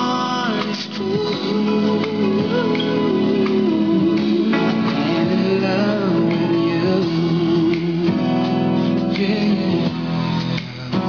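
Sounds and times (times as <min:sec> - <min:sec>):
song with guitar and singing: 0:00.0 - 0:11.0.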